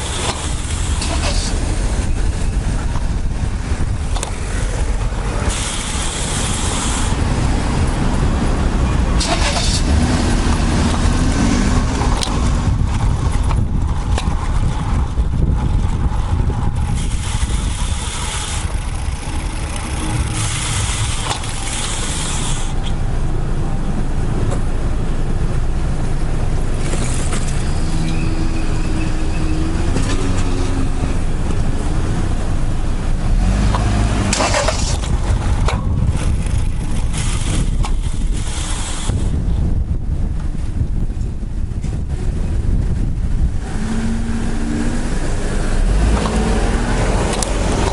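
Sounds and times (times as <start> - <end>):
passing motor vehicles: 0.0 - 47.9
wind rumbling on microphone: 0.0 - 47.9.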